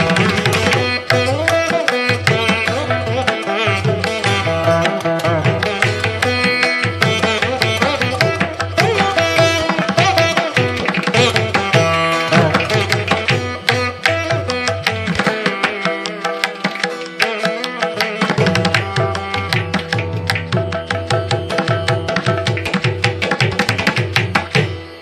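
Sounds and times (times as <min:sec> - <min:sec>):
instrumental music with drums: 0:00.0 - 0:25.0.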